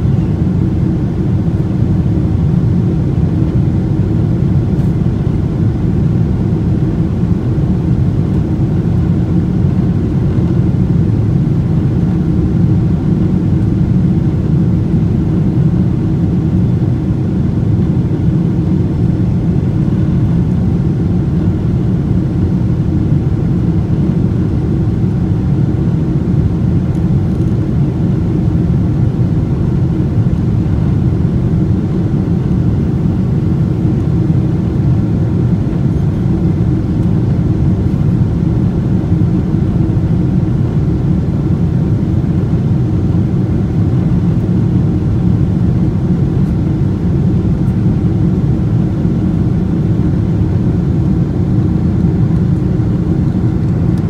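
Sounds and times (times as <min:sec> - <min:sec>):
faint steady hums: 0:00.0 - 0:54.0
jet engines roaring: 0:00.0 - 0:54.0.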